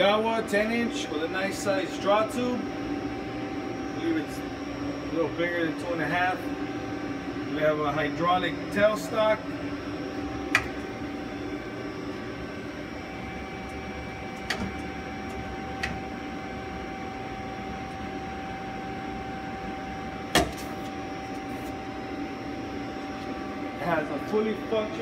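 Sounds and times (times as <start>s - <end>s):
machinery hum: 0.0s - 25.0s
steady whine: 0.0s - 25.0s.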